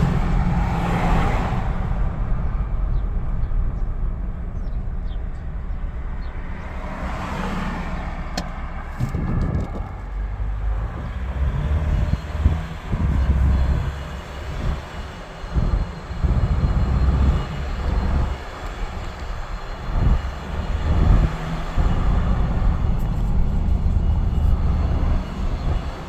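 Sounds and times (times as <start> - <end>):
low grinding rumble from truck: 0.0 - 26.0.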